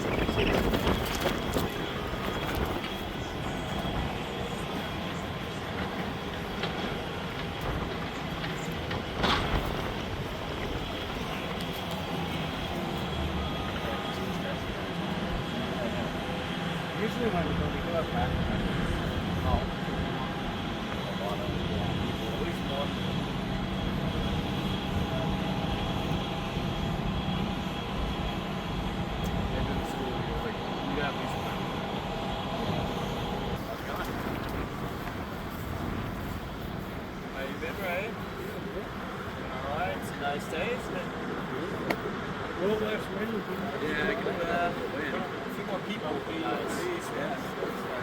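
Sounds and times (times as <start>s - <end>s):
wind buffeting microphone: 0.0s - 40.2s.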